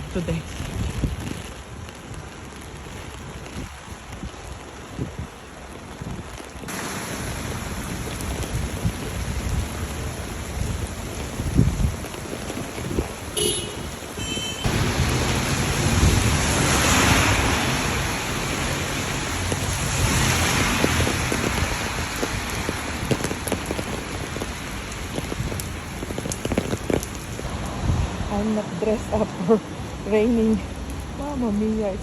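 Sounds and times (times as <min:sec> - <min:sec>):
heavy rain falling: 0:00.0 - 0:32.0
wind rumbling on microphone: 0:00.0 - 0:32.0.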